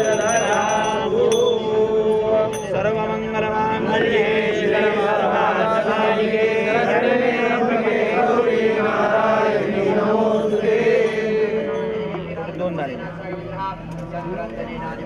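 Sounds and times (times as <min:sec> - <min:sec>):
mantras chanted: 0:00.0 - 0:15.0.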